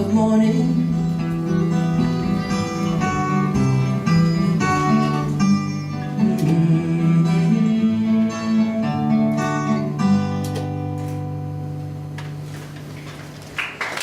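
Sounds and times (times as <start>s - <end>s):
acoustic guitar strumming chords: 0.0s - 12.4s.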